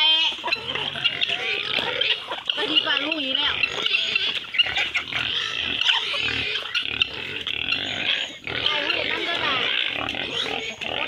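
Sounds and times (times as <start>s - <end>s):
farm animals calling: 0.0s - 11.0s.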